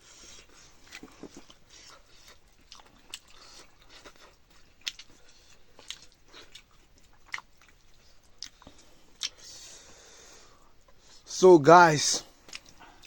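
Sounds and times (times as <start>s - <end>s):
person chewing: 0.1s - 9.9s, 12.3s - 13.0s.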